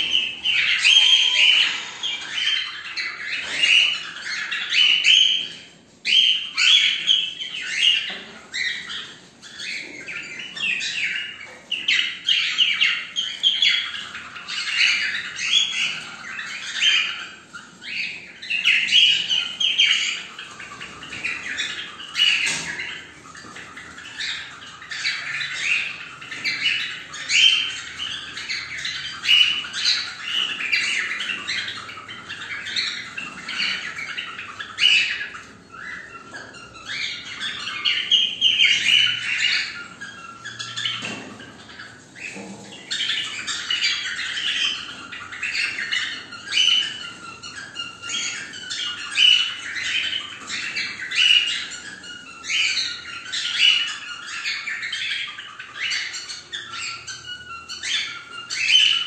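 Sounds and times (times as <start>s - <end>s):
cockatiels calling: 0.0s - 59.0s.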